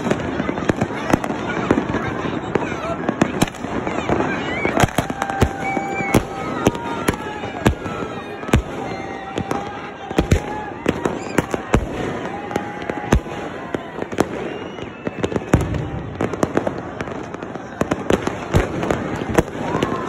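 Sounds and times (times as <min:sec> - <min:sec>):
fireworks bangs: 0:00.0 - 0:20.0
fireworks crackling and popping: 0:00.0 - 0:20.0.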